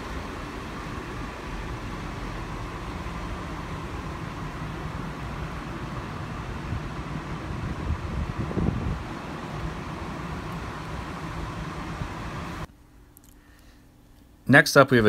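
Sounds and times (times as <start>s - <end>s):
mechanical hum and rumble: 0.0s - 15.0s.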